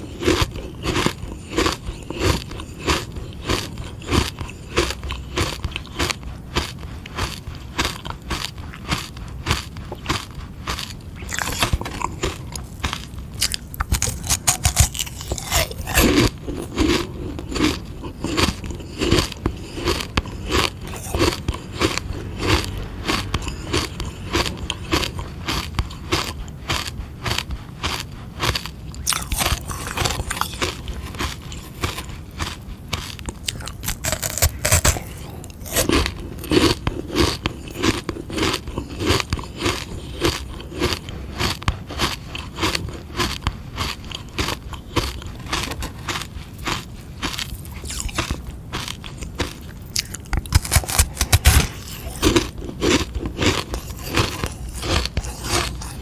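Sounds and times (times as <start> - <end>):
biting and crunching ice lolly: 0.0 - 56.0.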